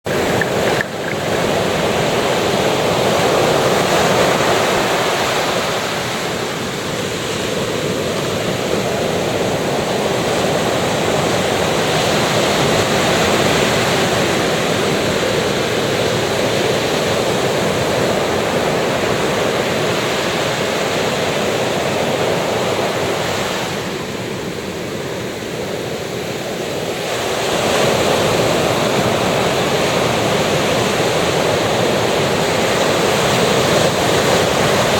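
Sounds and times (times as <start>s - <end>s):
sea waves breaking on beach: 0.0s - 34.9s.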